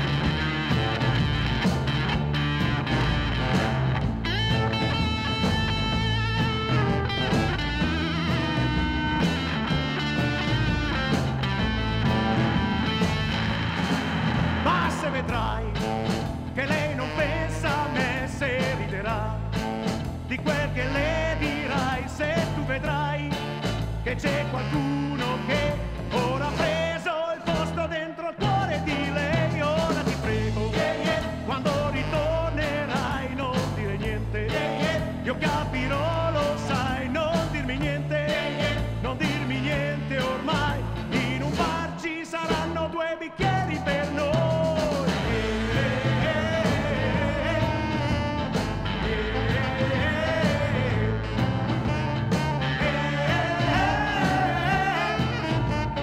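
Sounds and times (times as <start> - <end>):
rock and roll band playing: 0.0 - 56.0.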